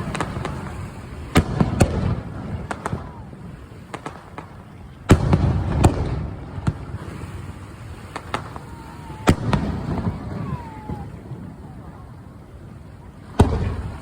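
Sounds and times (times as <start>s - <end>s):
fireworks bangs with crackling: 0.0s - 14.0s.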